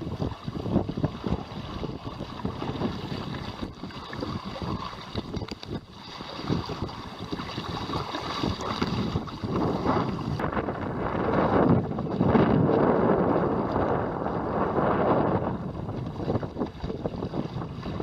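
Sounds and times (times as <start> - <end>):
water splashing along hull: 0.0 - 18.0
wind buffeting microphone: 0.0 - 18.0.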